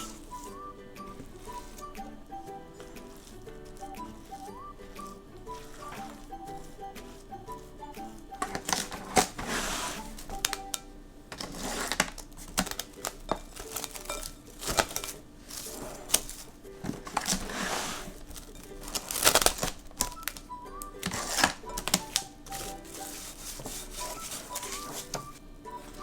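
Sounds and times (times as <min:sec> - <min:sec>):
background music: 0:00.0 - 0:26.0
rustling crinkling handling noise: 0:00.0 - 0:26.0.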